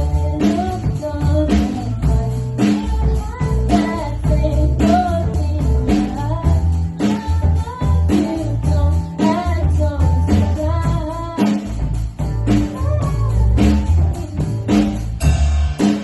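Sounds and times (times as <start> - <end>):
woman singing: 0.0 - 15.1
band with guitar bass and drums: 0.0 - 16.0.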